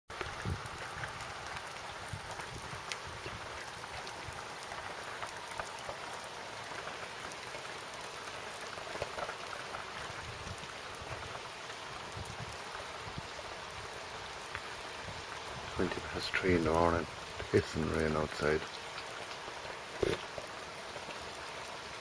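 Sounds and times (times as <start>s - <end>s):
heavy rain hissing: 0.1s - 22.0s
raindrops ticking: 0.1s - 22.0s.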